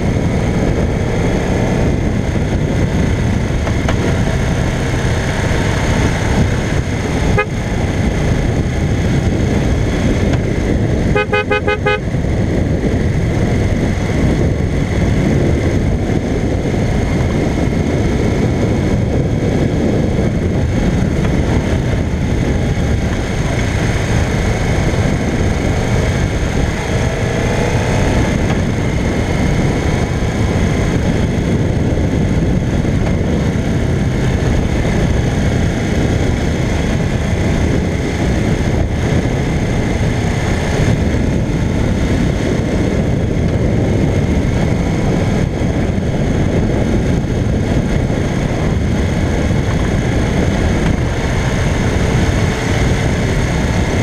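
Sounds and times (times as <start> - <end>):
motorcycle engine running: 0.0 - 54.0
road noise: 0.0 - 54.0
wind rush: 0.0 - 54.0.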